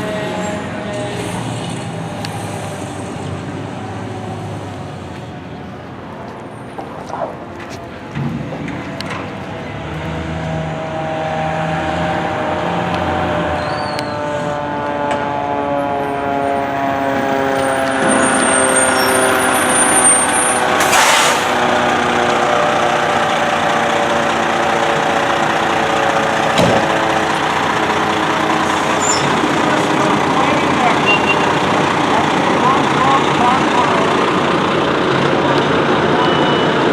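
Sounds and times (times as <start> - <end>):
fire engine droning: 0.0 - 36.9.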